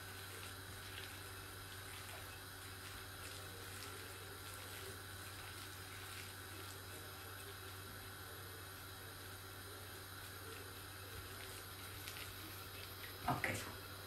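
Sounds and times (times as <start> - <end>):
hand squelching batter: 0.0 - 13.2.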